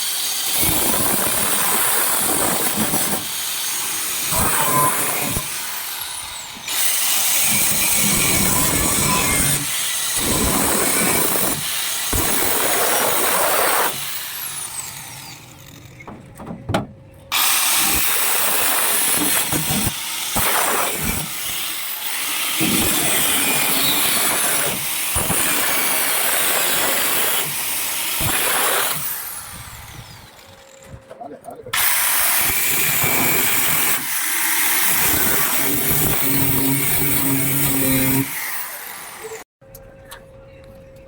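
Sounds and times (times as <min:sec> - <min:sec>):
power tool hissing: 0:00.0 - 0:15.8, 0:17.3 - 0:30.4, 0:31.8 - 0:39.5
power tool spinning down whine: 0:00.0 - 0:16.0, 0:17.3 - 0:30.8, 0:31.8 - 0:39.5.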